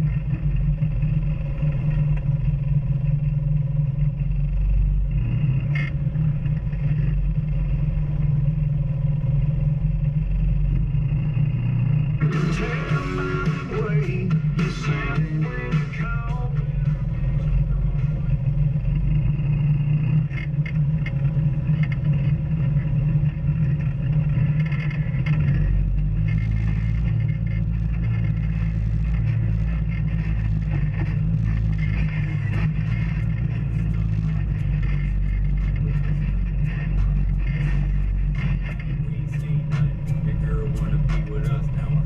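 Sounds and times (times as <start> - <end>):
clatter and rattles: 0.0 - 12.5, 14.0 - 42.0
off-road vehicle engine: 0.0 - 42.0.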